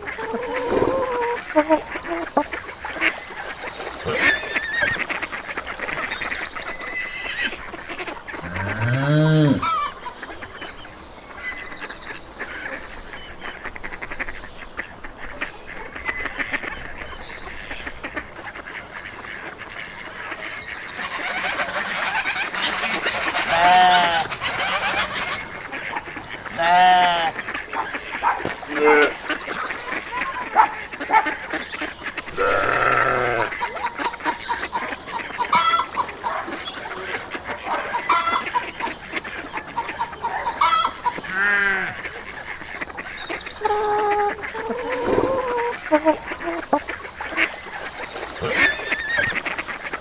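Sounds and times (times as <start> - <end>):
farm animals calling: 0.0 - 50.0.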